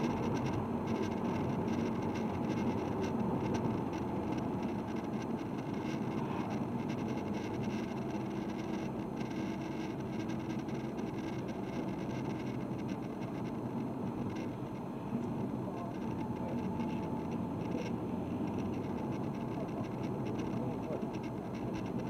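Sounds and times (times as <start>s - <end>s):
diesel car engine droning: 0.0s - 22.0s.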